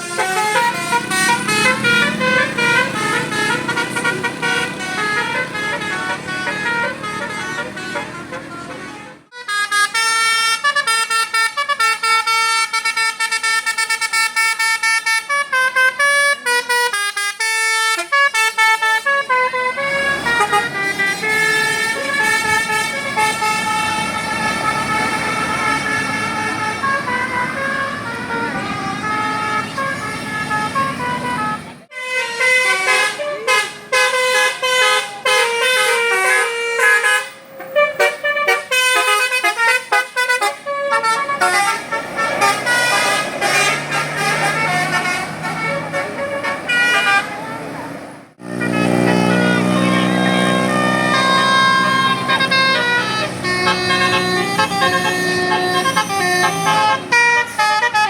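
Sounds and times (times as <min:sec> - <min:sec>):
bus engine and road noise: 0:00.0 - 0:58.0
multi-tone musical bus horn: 0:00.0 - 0:58.0.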